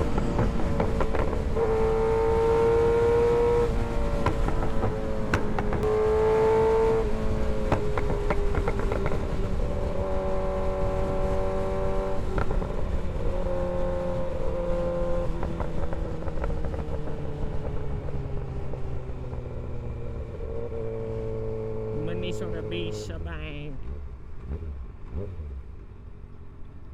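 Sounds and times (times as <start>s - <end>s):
motorcycle engine revving through gears: 0.0s - 22.0s, 23.8s - 26.1s.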